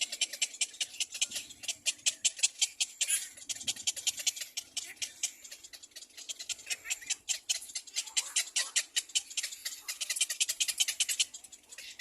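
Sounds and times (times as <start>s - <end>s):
cormorants chattering: 0.0s - 12.0s.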